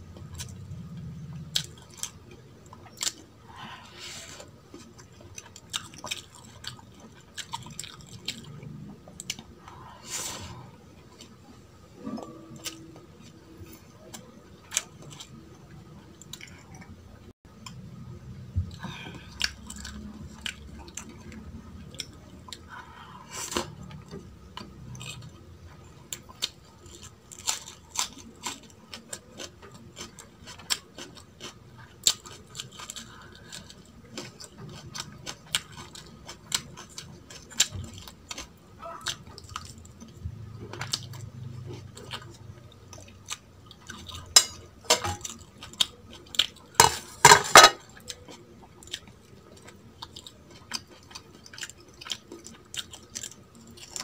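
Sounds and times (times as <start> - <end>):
chewing and mouth sounds: 0.1 - 9.9, 11.1 - 17.8, 18.6 - 47.2, 47.8 - 54.0.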